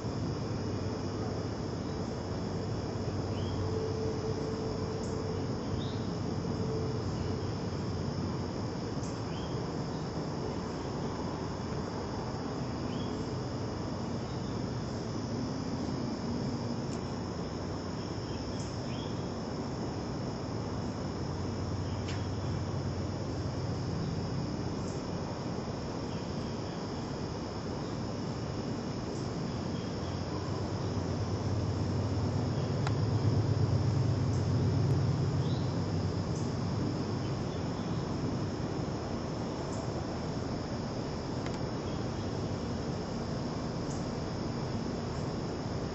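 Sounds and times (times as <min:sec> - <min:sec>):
background hiss: 0:00.0 - 0:45.9
crickets chirping: 0:00.0 - 0:45.9.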